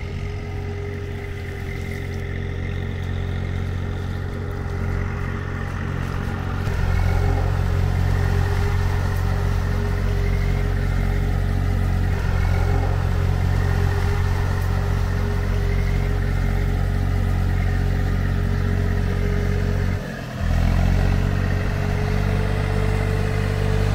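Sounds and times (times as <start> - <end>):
engine running steadily: 0.0 - 23.9.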